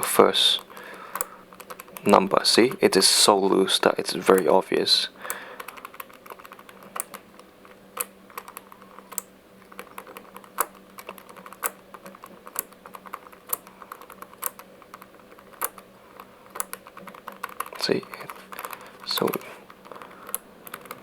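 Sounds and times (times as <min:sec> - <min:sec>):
padlock dial clicking: 0:00.7 - 0:02.2, 0:05.2 - 0:21.0.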